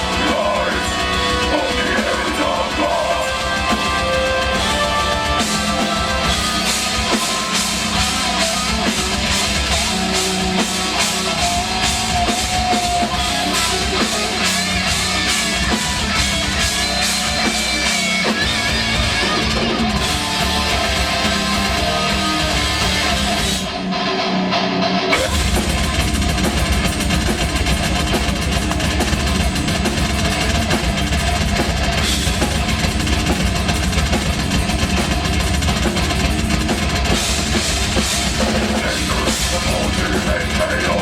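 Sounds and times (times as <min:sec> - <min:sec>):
fast drum beat: 0:00.0 - 0:23.8, 0:25.1 - 0:41.0
metal band playing live: 0:00.0 - 0:41.0.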